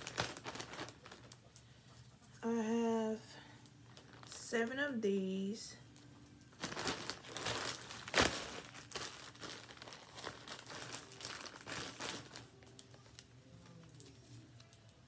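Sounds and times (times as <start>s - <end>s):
plastic bag crinkling: 0.0s - 1.6s, 3.7s - 15.0s.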